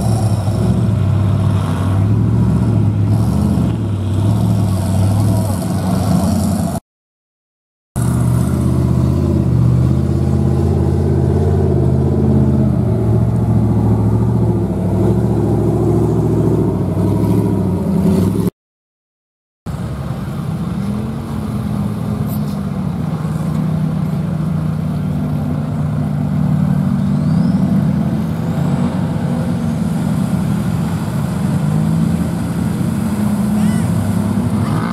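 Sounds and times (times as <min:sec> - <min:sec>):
truck engines revving: 0:00.0 - 0:06.8, 0:08.0 - 0:18.5, 0:19.7 - 0:34.9.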